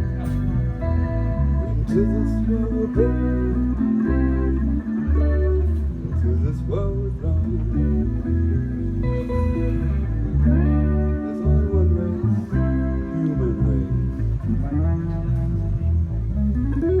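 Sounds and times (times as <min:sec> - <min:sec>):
bass line: 0:00.0 - 0:17.0
guitar lines: 0:00.0 - 0:17.0.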